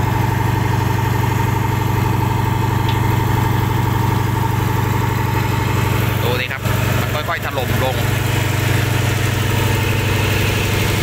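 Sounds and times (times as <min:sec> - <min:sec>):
dredge engine low drone: 0:00.0 - 0:11.0
steady higher engine tone: 0:00.0 - 0:11.0.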